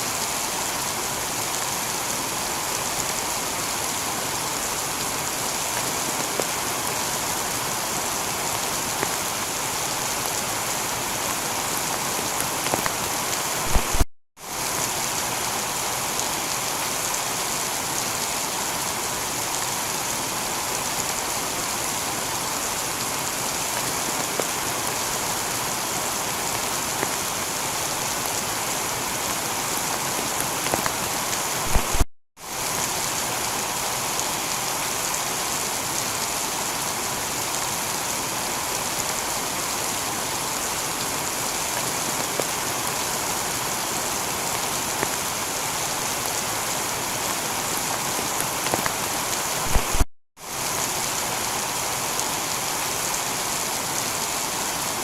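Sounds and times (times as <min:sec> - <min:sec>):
heavy rain on a tiled roof: 0:00.0 - 0:55.0.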